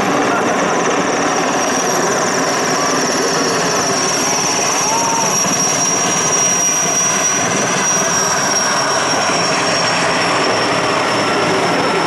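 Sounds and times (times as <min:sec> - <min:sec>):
helicopter rotor noise: 0:00.0 - 0:12.0
helicopter turbine whine: 0:00.0 - 0:12.0.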